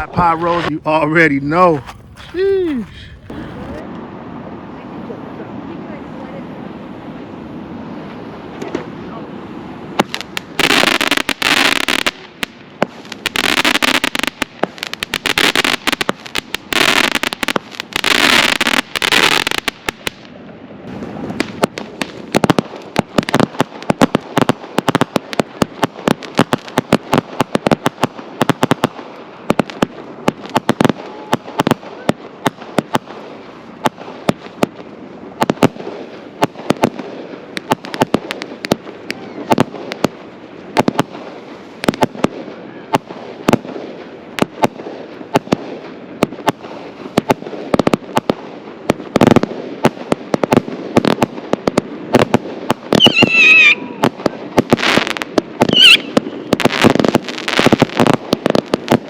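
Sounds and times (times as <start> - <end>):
fireworks crackling: 0.0 - 59.0
firework pops and bangs: 8.6 - 8.9, 9.9 - 59.0.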